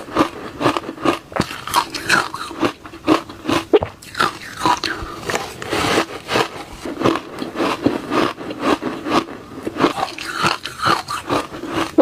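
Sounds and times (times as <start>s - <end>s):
ice crunching as chewed: 0.0s - 12.0s.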